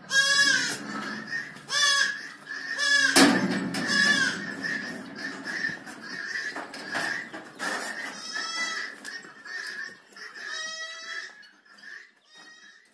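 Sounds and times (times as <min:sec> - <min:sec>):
goats bleating: 0:00.0 - 0:07.3, 0:07.9 - 0:12.8.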